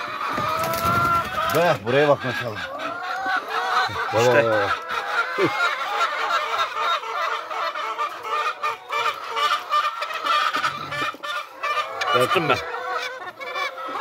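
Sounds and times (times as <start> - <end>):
hens clucking and squawking: 0.0 - 14.0.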